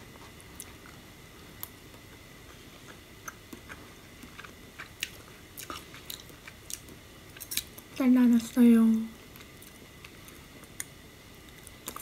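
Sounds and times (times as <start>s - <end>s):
quiet chewing: 0.1s - 8.0s, 9.3s - 12.0s.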